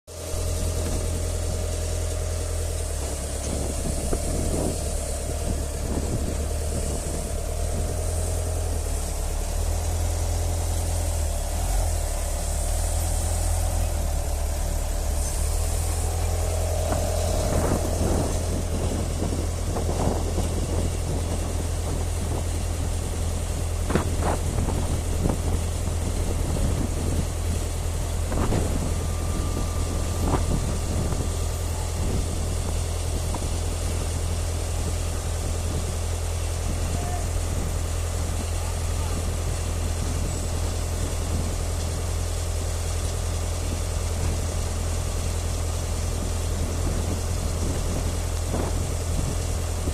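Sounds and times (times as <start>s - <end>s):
ramp equipment engine idling: 0.1s - 49.9s.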